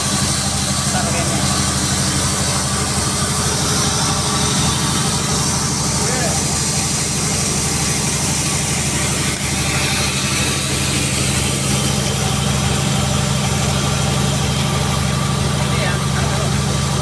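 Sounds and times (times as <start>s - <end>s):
sawmill machinery droning: 0.0s - 17.0s.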